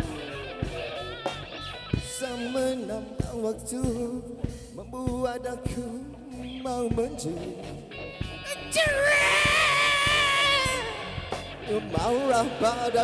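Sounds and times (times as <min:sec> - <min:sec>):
bending lead guitar melody: 0:00.0 - 0:13.0
drum kit beat: 0:00.0 - 0:13.0
live blues-rock band: 0:00.0 - 0:13.0.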